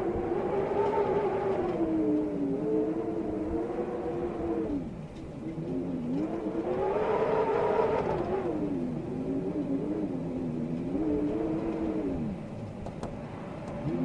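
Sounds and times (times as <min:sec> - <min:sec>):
storm wind howling: 0:00.0 - 0:14.0.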